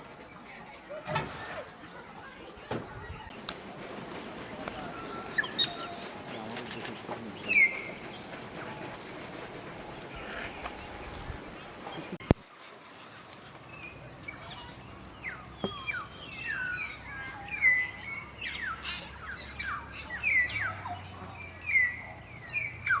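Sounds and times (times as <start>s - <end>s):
birds chirping: 0.0s - 23.0s
high insect drone: 3.3s - 23.0s.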